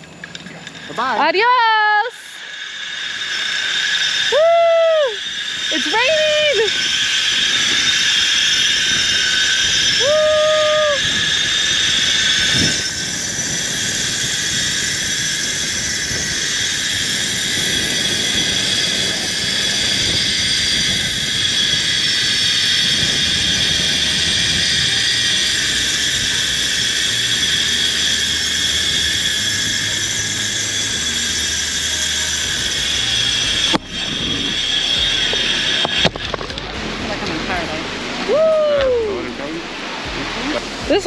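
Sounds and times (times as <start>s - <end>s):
zip-line pulleys whirring: 0.0s - 41.0s.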